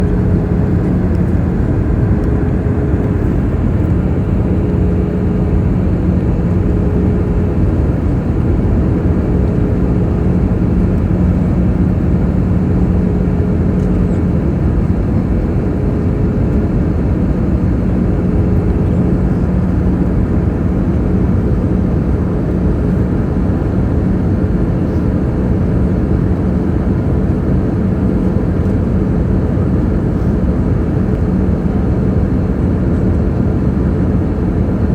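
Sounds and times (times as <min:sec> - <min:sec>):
low steady hum: 0:00.0 - 0:34.8
jet airliner engine rush: 0:00.0 - 0:34.9.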